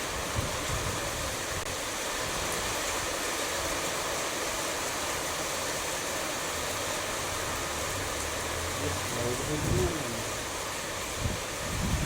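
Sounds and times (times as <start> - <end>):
tyres on wet road: 0.0 - 12.0.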